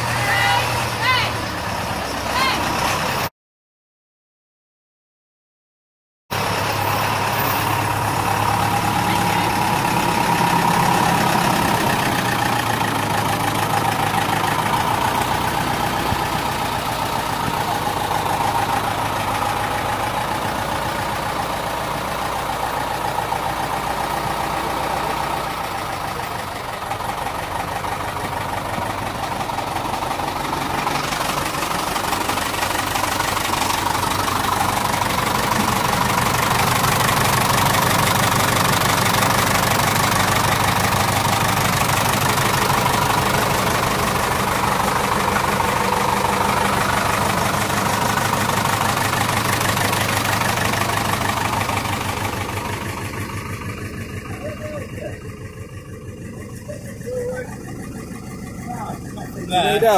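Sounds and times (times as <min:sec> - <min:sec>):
tractor diesel engine idling: 0:00.0 - 0:03.3, 0:06.3 - 0:59.9.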